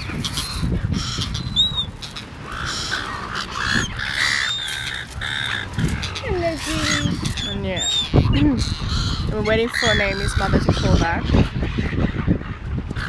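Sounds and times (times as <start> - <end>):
gulls squawking: 0.0 - 13.0
wind rumbling on microphone: 0.0 - 13.0.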